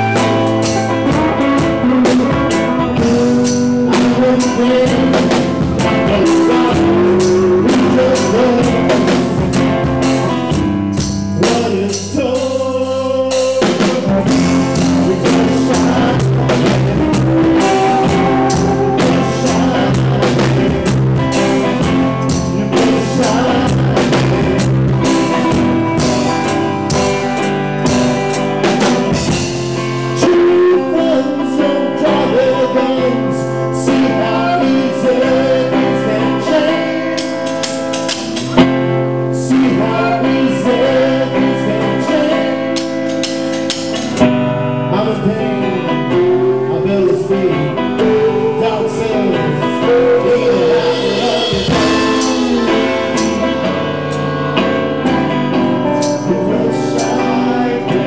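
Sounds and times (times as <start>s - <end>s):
drum kit: 0.0s - 45.3s, 46.1s - 58.0s
electric bass: 0.0s - 58.0s
electric guitar: 0.0s - 58.0s
man singing lead: 0.0s - 58.0s.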